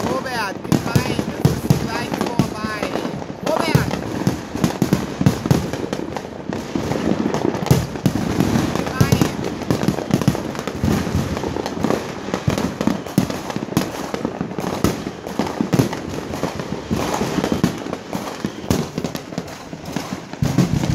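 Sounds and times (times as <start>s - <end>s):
fireworks bangs and crackles: 0.0s - 20.9s.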